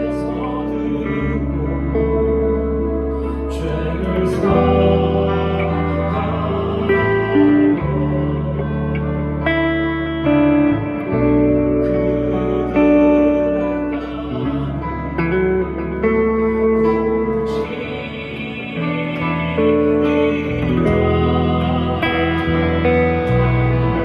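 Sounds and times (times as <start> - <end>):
long held bass notes: 0.0 - 24.0
plucked guitar-like melody: 0.0 - 24.0.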